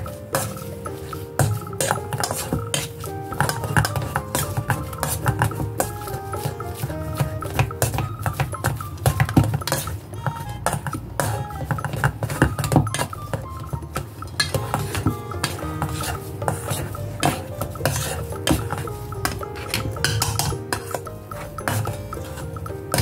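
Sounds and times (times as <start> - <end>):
background music: 0.0 - 23.0
masher scraping metal bowl: 0.3 - 13.4, 14.2 - 23.0.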